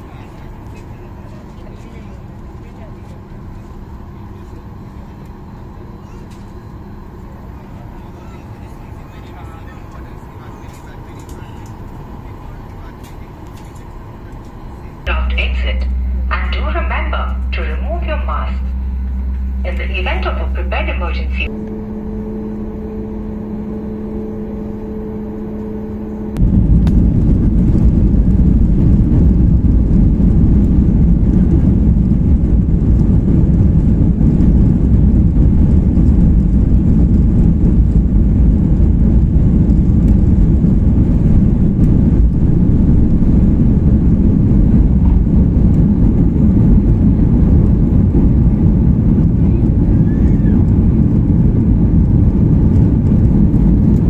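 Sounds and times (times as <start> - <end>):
cabin hum with faint tone: 0.0 - 54.0
jet engines rumbling: 0.0 - 54.0.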